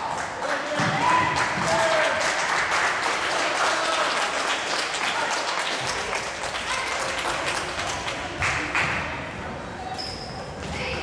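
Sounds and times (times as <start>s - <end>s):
spectators clapping: 0.0s - 9.2s.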